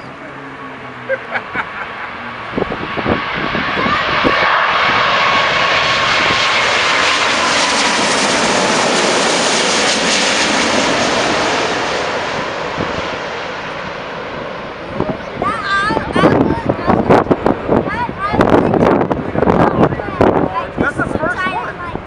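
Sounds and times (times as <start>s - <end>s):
jet airliner flying past: 0.0s - 22.0s.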